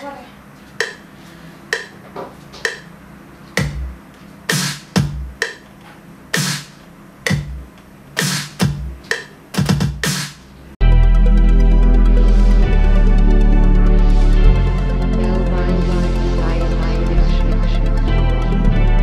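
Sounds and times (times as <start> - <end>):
drum machine beat: 0.7 - 19.0.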